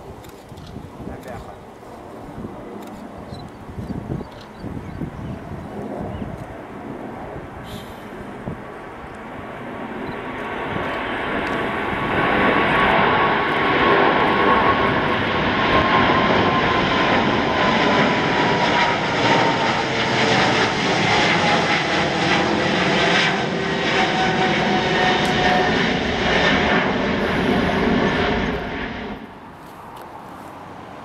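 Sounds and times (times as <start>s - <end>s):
jet engines roaring: 0.0s - 31.0s.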